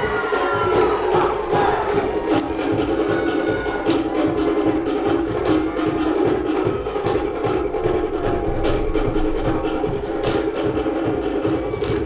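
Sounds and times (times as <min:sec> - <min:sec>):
fast drumming on wooden slit drums: 0:00.1 - 0:12.0.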